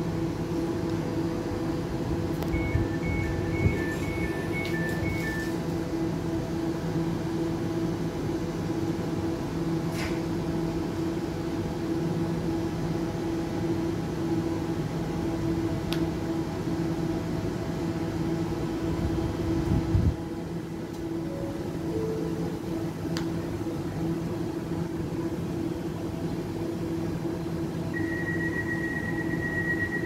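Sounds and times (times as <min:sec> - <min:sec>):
electric train humming: 0:00.0 - 0:09.8, 0:10.5 - 0:30.0.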